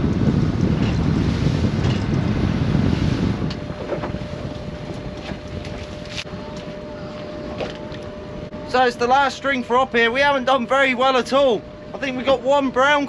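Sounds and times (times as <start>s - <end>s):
wind buffeting microphone: 0.0s - 10.6s
small boat engine running: 0.0s - 13.0s.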